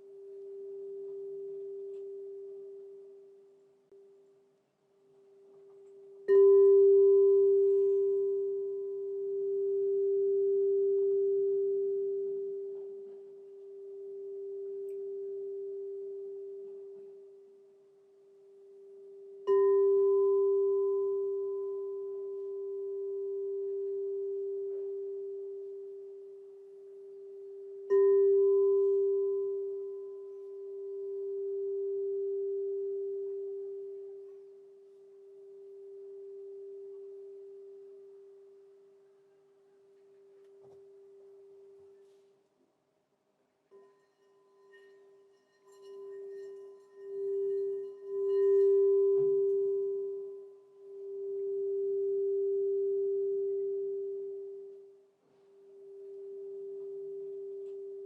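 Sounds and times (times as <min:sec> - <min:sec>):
crystal singing bowl ringing: 0:00.0 - 0:03.6, 0:05.5 - 0:39.1, 0:43.7 - 0:58.0.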